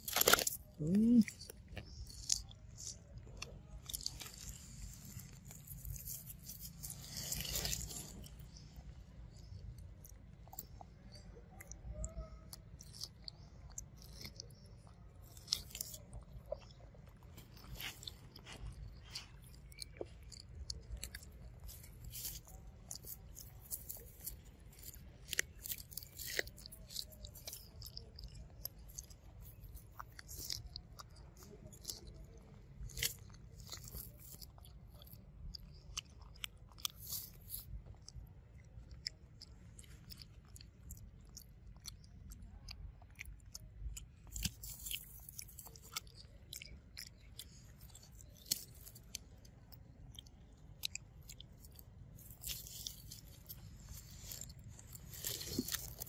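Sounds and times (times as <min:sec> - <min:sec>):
monkey chewing corn: 0:00.0 - 0:56.0.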